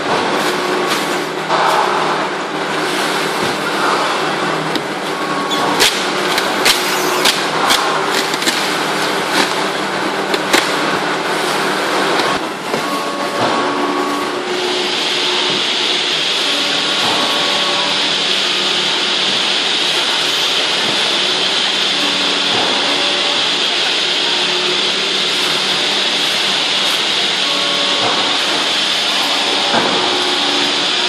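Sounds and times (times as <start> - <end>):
factory machinery humming: 0.0 - 31.0.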